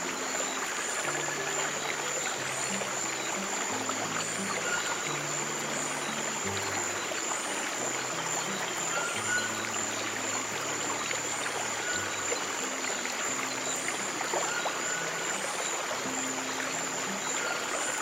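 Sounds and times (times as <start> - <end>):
soft low piano music: 0.0 - 18.0
stream water trickling: 0.0 - 18.0.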